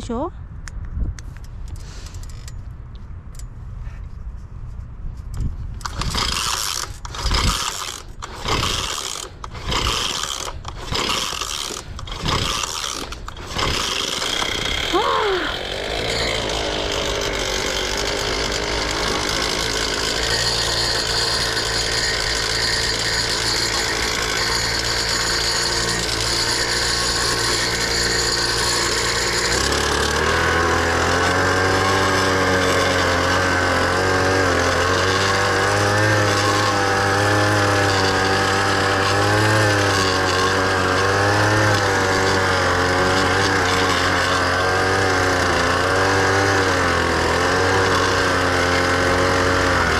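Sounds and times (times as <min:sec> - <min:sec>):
tiller engine running: 0:05.8 - 0:49.9.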